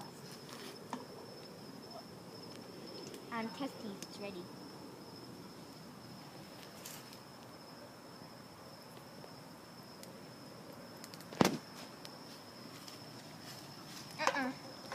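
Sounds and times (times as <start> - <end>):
insects trilling: 0.0 - 14.9.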